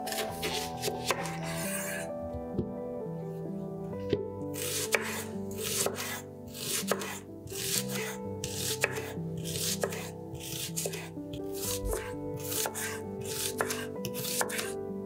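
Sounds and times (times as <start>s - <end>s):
knife slicing onion on board: 0.0s - 2.0s, 4.6s - 14.7s
soft background music: 0.0s - 15.0s.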